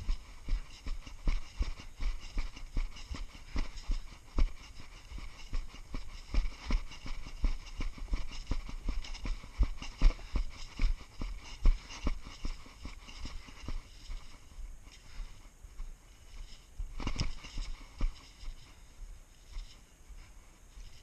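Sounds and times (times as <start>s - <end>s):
heavy footsteps: 0.0s - 21.0s.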